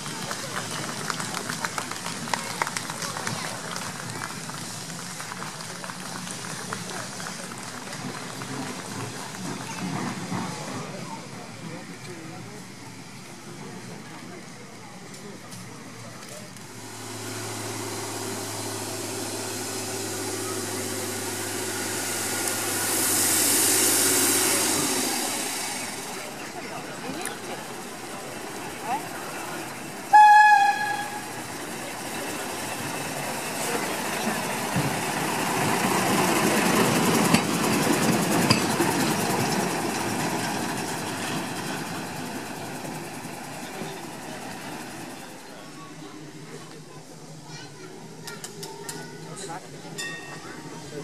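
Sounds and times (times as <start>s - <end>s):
diesel rail vehicle running on track: 0.0s - 51.0s.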